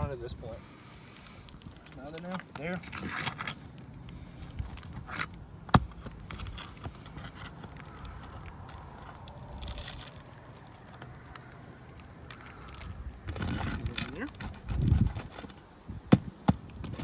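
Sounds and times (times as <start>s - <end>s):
pry bar scraping under shingles: 0.6s - 17.0s.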